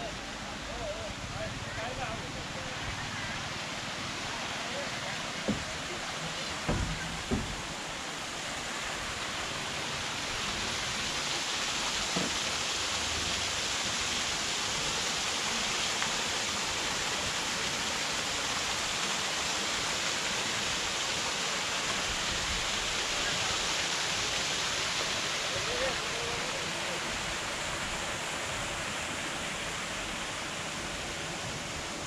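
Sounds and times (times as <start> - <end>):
water rushing over rock steps: 0.0 - 32.0.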